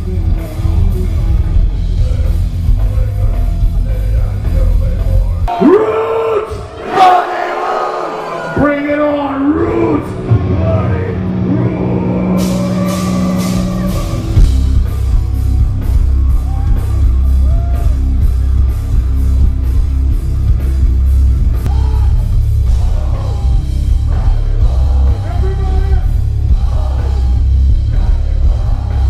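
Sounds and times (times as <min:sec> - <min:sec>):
heavy metal band playing live: 0:00.0 - 0:06.8, 0:09.3 - 0:29.0.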